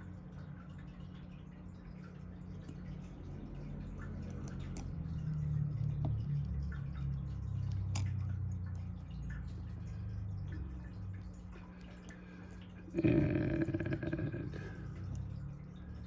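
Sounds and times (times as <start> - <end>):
low hum: 0.3 - 16.0.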